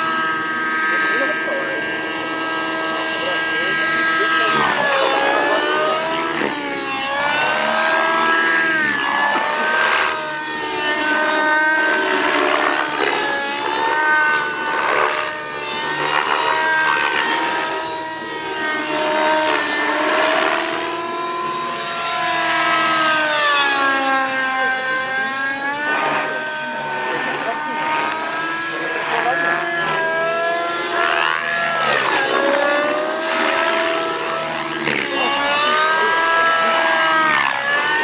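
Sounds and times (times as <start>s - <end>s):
model helicopter motor and rotor: 0.0s - 38.0s.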